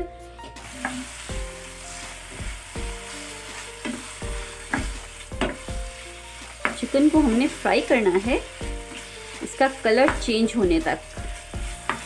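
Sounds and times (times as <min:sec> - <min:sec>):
chicken sizzling in oil: 0:00.5 - 0:12.0.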